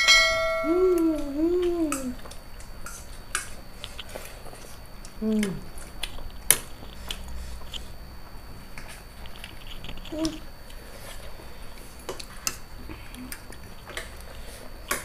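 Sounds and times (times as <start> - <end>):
people chewing noodles: 0.7 - 15.0.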